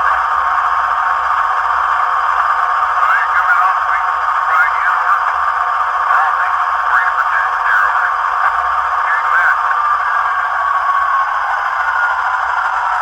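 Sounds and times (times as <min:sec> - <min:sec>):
tinny diesel engine running: 0:00.0 - 0:13.0.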